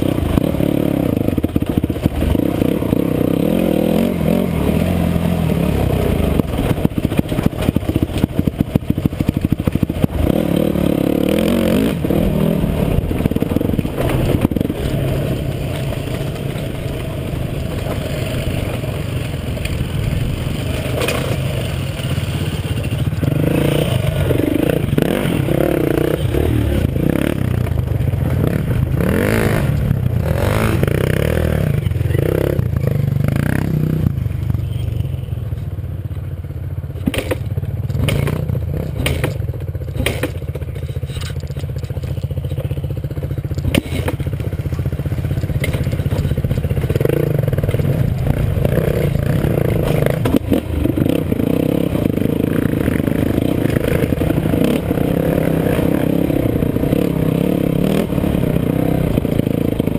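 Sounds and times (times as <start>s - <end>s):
bike clattering over ruts: 0.0s - 33.7s, 36.9s - 59.9s
dirt bike engine running: 0.0s - 59.9s.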